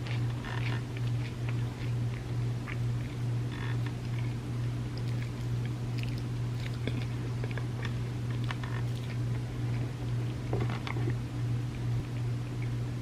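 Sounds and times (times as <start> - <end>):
person chewing cookie: 0.0 - 13.0
steady low hum: 0.0 - 13.0.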